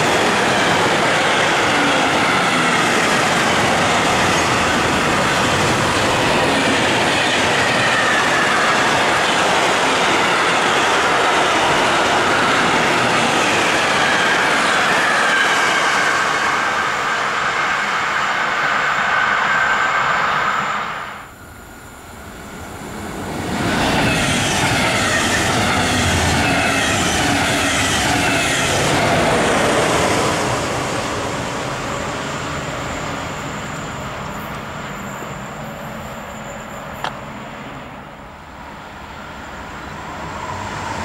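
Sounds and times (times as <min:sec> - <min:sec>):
freight train wagons on rails: 0:00.0 - 0:41.0
passenger train passing: 0:00.0 - 0:41.0.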